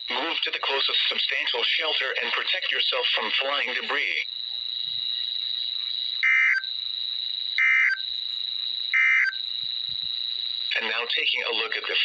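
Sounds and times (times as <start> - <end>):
raspy data bursts: 0.1 - 12.0.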